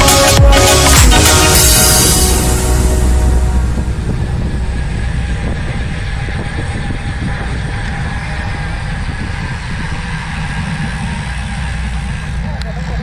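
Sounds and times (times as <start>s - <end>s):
road and vehicle noise: 0.0s - 13.0s
wind rushing over microphone: 1.5s - 13.0s.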